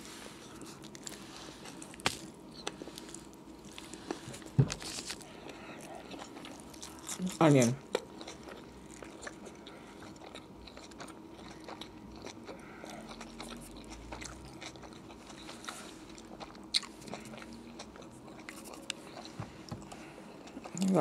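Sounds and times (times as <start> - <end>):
person chewing sandwich: 0.0 - 21.0.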